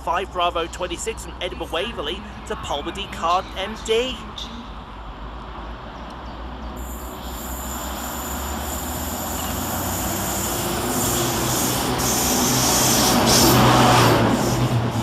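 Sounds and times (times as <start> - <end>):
electric locomotive hum: 0.0 - 15.0
wheels rushing on rails: 0.0 - 15.0.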